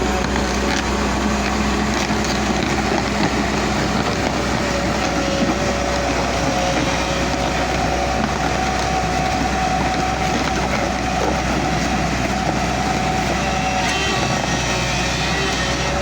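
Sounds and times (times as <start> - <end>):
excavator engine drone: 0.0 - 16.0.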